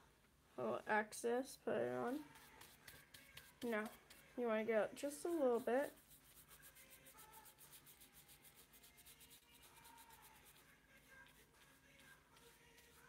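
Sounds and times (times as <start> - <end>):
paintbrush scratching on canvas: 2.1 - 13.0.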